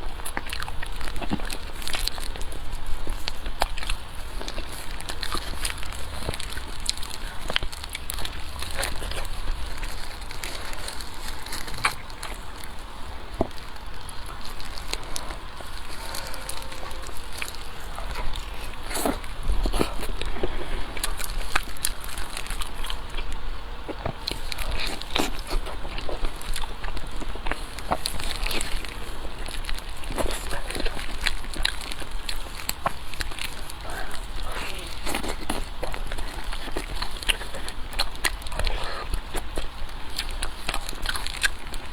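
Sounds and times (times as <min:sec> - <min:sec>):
wet chewing and mouth smacks: 0:00.0 - 0:41.9.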